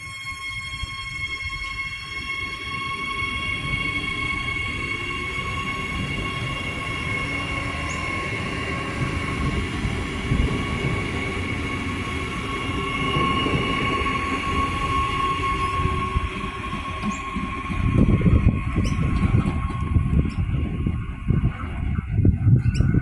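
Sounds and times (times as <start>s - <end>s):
high steady whine: 0.0s - 23.0s
train wheels rumbling on rail: 0.0s - 23.0s.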